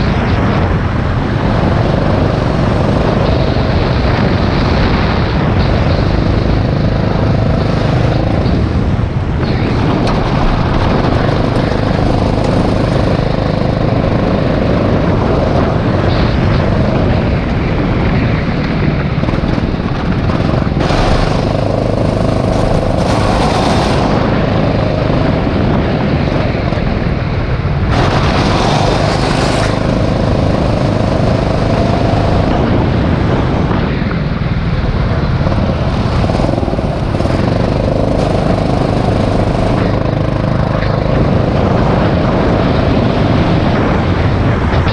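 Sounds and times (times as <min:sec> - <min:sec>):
go-kart engine running hard: 0:00.0 - 0:44.9.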